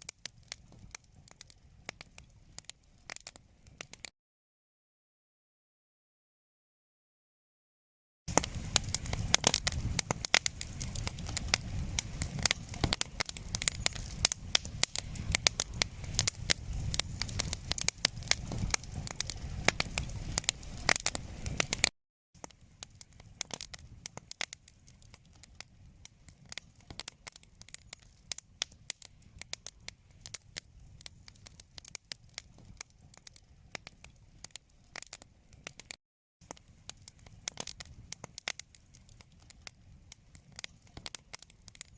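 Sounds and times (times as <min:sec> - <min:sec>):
wood fire crackling: 0:00.0 - 0:04.1, 0:08.3 - 0:41.9.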